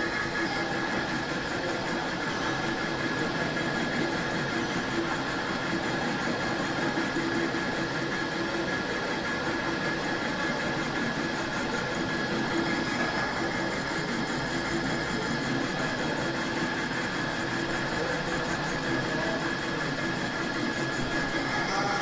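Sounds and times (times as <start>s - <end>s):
metal lathe humming: 0.0s - 22.0s.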